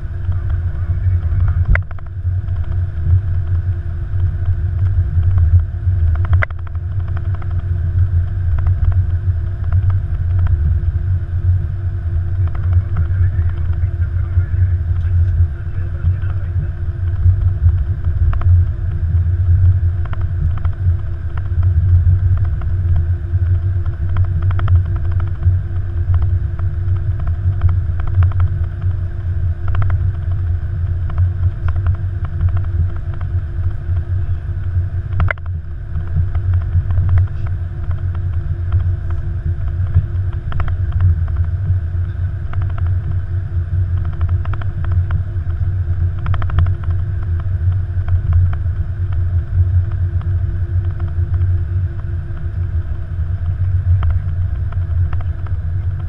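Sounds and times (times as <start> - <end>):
aircraft cockpit rumble: 0.0 - 56.0
faint steady hum: 0.0 - 56.0.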